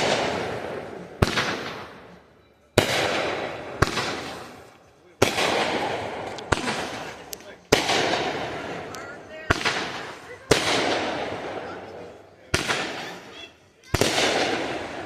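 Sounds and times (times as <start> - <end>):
fireworks bangs: 0.0 - 2.2, 2.8 - 15.0.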